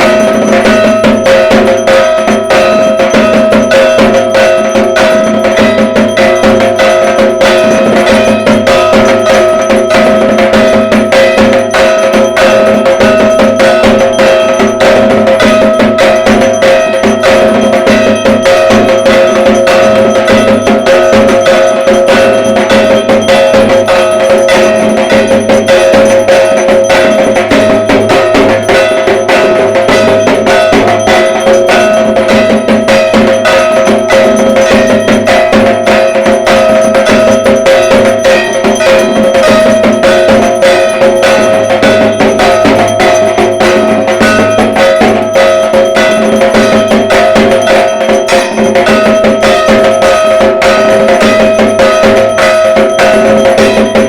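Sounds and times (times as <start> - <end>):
drums beaten fast: 0.0 - 54.0
metallic ringing: 0.0 - 54.0.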